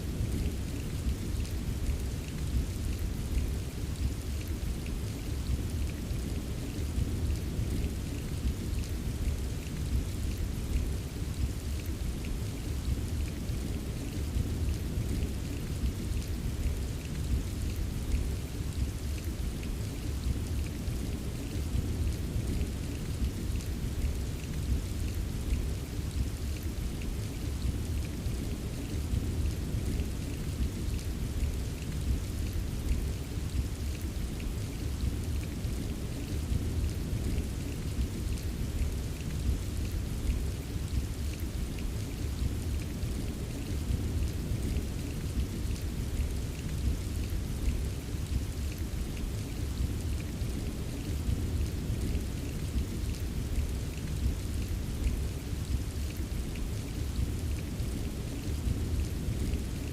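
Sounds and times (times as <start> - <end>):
steady rain: 0.0 - 59.9
raindrop ticks: 0.1 - 59.9.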